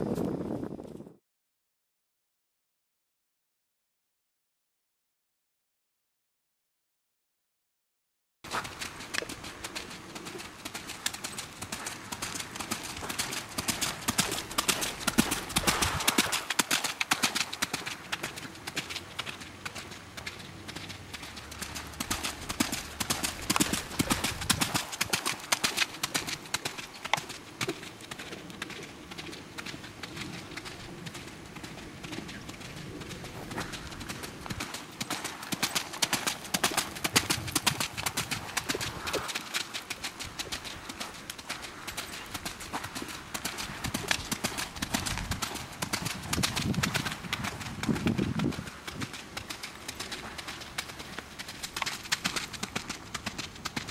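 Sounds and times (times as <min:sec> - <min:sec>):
pony hoofbeats trotting: 0:08.5 - 0:53.9.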